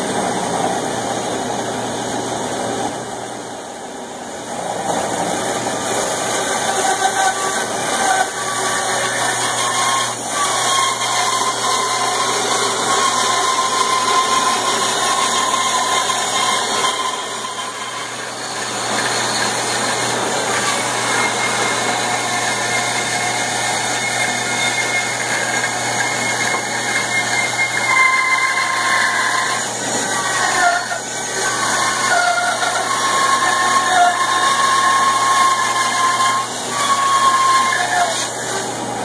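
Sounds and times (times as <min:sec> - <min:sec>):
band saw cutting wood: 0:04.8 - 0:39.0.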